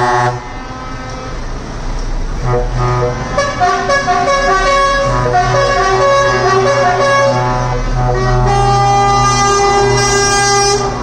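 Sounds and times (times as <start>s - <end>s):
truck and car horns honking: 0.0s - 11.0s
vehicle engines: 0.0s - 11.0s.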